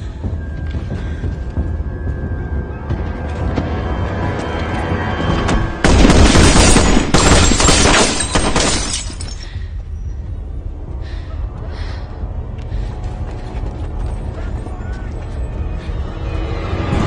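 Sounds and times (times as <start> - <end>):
low music drone: 0.0 - 6.3, 9.2 - 17.0.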